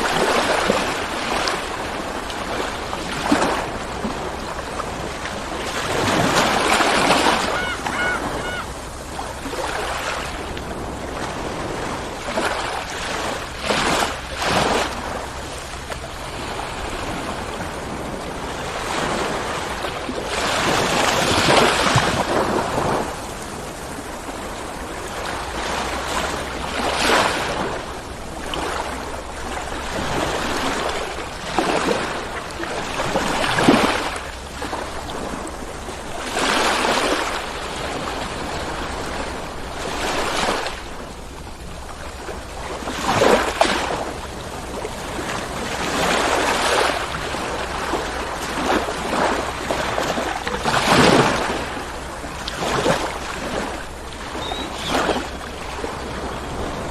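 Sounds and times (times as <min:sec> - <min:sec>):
ocean waves breaking on shore: 0:00.0 - 0:56.9.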